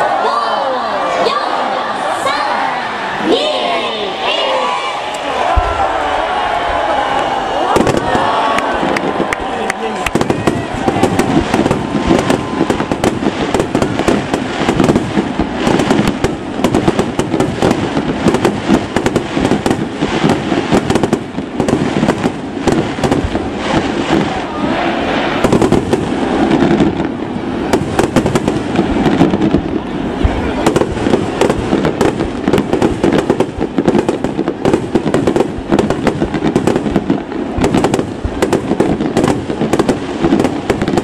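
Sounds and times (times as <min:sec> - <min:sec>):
fireworks banging and crackling: 0:03.3 - 0:41.0.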